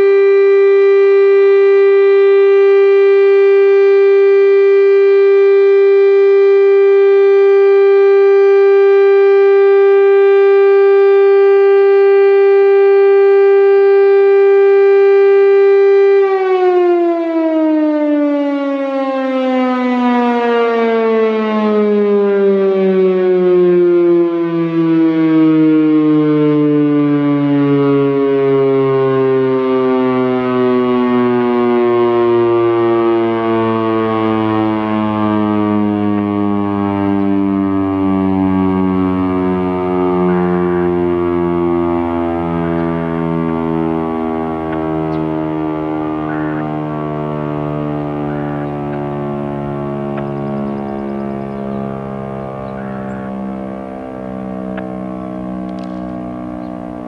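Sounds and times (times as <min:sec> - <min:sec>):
warning siren tone: 0:00.0 - 0:57.0.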